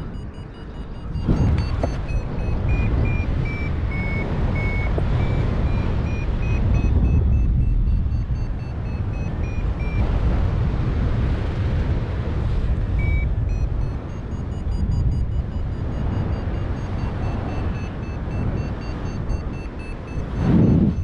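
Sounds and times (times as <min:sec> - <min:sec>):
variometer short beeps: 0:00.0 - 0:10.7, 0:12.8 - 0:21.0
wind buffeting microphone: 0:00.0 - 0:21.0.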